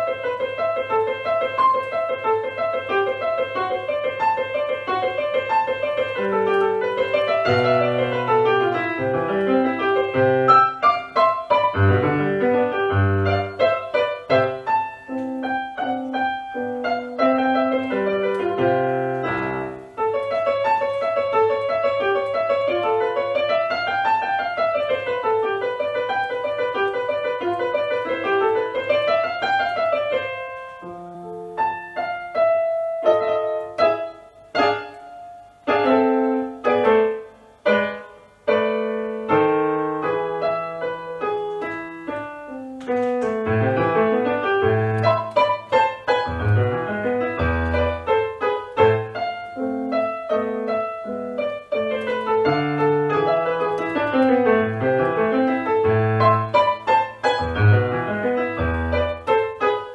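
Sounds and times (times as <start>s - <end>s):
digital piano playing: 0.0s - 59.9s.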